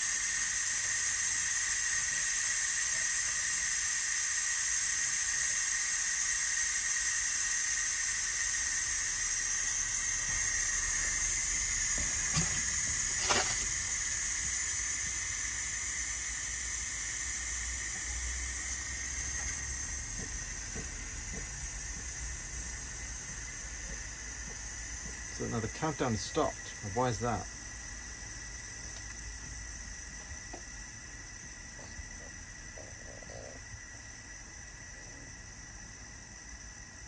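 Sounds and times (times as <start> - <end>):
pressure cooker steam hissing: 0.0 - 37.0.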